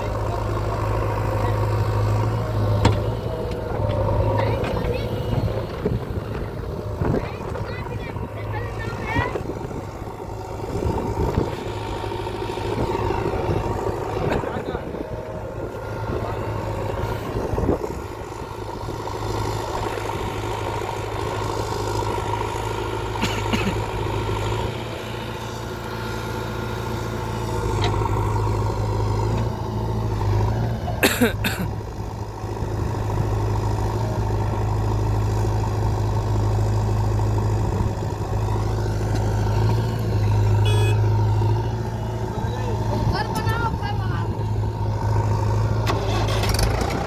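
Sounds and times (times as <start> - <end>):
heavy diesel engine running: 0.0 - 47.0.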